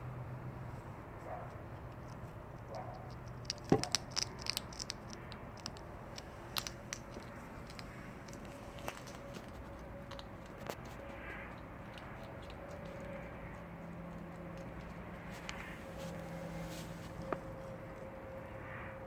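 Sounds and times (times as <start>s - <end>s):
animal crunching dry cat food: 1.3s - 18.1s.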